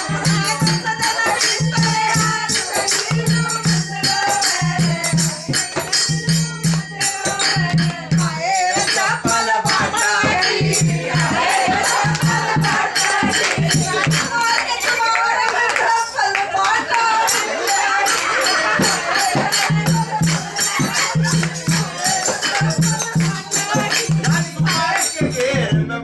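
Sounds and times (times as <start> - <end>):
hand clapping: 0.0 - 8.0, 9.7 - 25.6
women singing together: 0.0 - 25.8
rattling percussion: 0.0 - 26.0.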